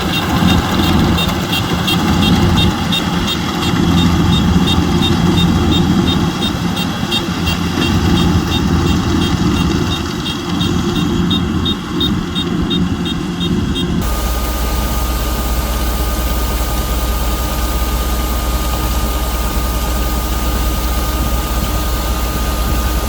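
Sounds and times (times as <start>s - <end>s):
harvester engine running: 0.0s - 23.0s
machinery ticking: 0.0s - 23.0s.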